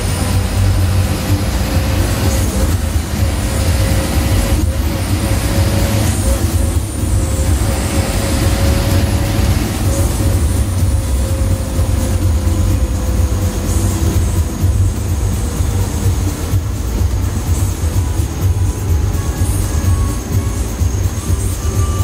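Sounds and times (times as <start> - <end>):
bus diesel engine rumble: 0.0 - 22.0.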